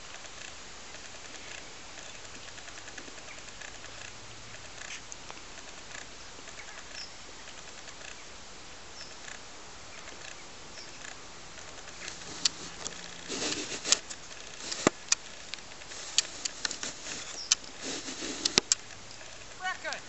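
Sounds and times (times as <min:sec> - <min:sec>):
faint ticks: 0:00.0 - 0:19.6
outdoor background hiss: 0:00.0 - 0:20.0.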